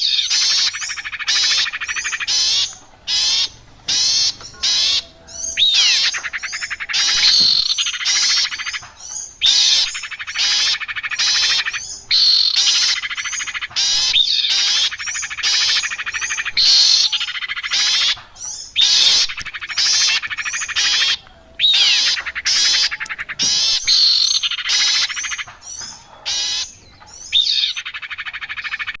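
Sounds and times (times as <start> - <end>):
recorded birdsong trilling: 0.0 - 29.0.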